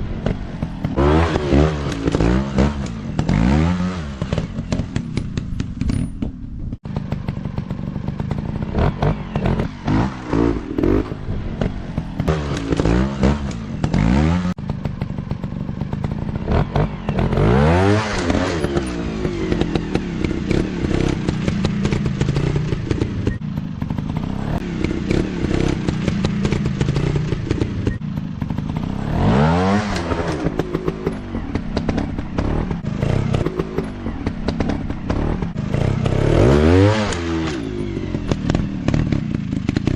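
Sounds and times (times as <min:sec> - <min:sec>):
dirt bike engines revving: 0:00.0 - 0:05.9, 0:06.9 - 0:39.9.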